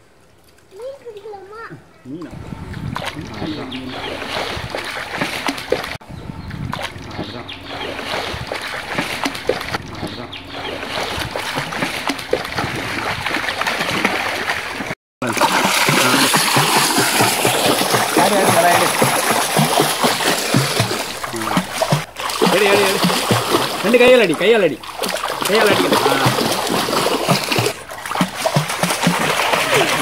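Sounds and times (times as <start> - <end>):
water splashing in a pool: 0.0 - 30.0.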